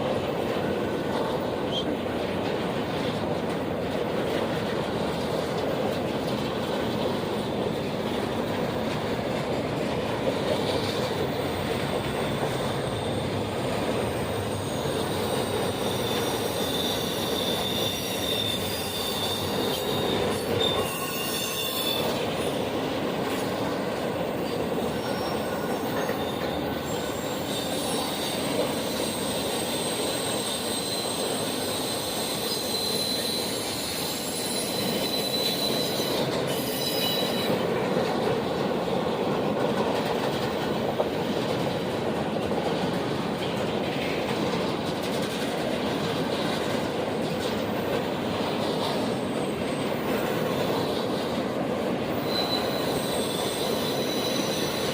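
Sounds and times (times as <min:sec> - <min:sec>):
railroad cars rumbling past: 0:00.0 - 0:54.9
wheels squealing on rails: 0:00.0 - 0:54.9.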